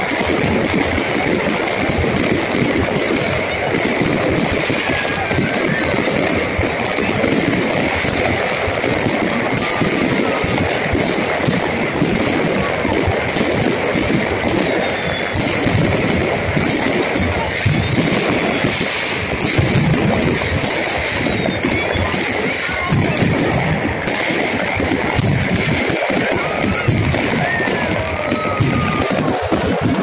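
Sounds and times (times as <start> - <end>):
fireworks and firecrackers crackling: 0.0 - 30.0.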